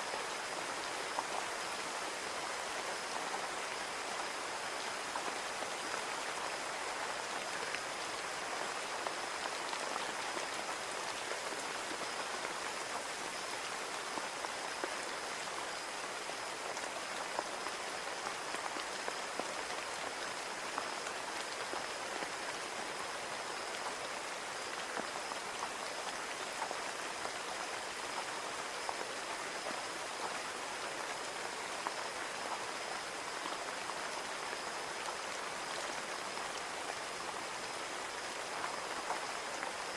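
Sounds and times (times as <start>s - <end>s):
rain pattering on a window: 0.1s - 39.9s.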